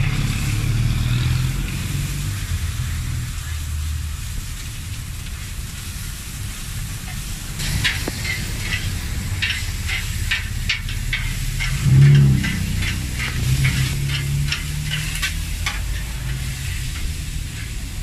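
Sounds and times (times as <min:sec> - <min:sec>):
meat sizzling: 0:00.0 - 0:18.0
traffic rumble: 0:00.0 - 0:18.0.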